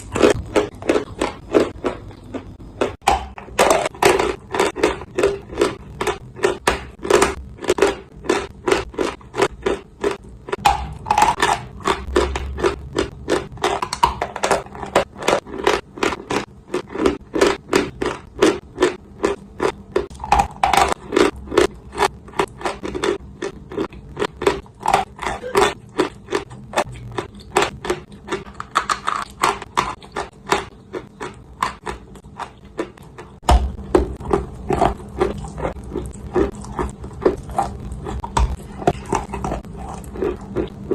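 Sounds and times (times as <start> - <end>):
clay chunks crunching: 0.0 - 40.9.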